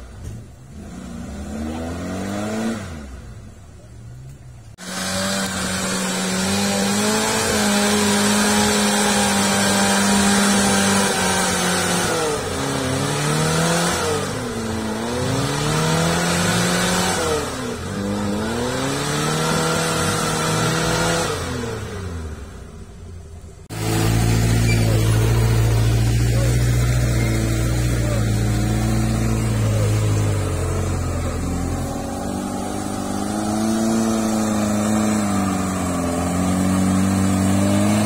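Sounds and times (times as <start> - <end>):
engine revving hard: 0.7 - 3.4, 4.8 - 22.6, 23.6 - 38.0.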